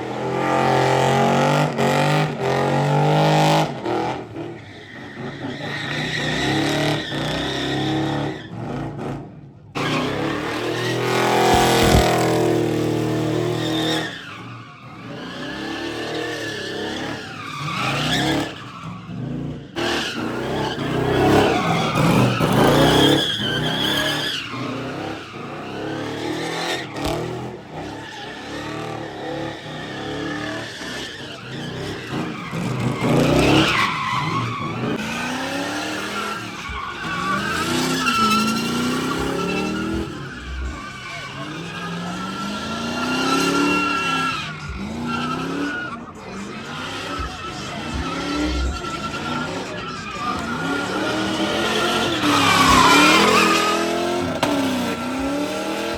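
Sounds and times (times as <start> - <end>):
tires squealing: 0.0 - 55.9
car engine revving hard: 6.2 - 14.1, 17.8 - 55.9.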